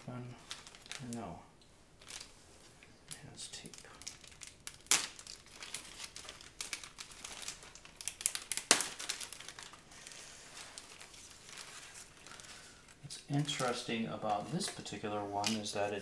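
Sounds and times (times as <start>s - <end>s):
plastic bag crinkling: 0.0s - 1.4s, 2.0s - 16.0s.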